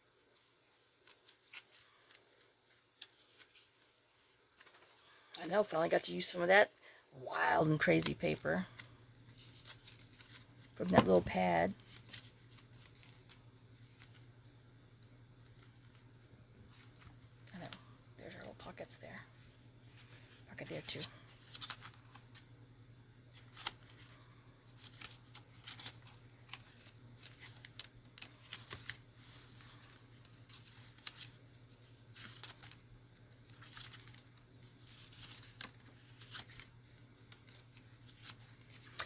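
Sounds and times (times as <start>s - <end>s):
paper pages rustling: 0.2s - 5.8s, 7.8s - 14.4s, 15.0s - 17.9s, 19.3s - 22.5s, 23.2s - 39.0s.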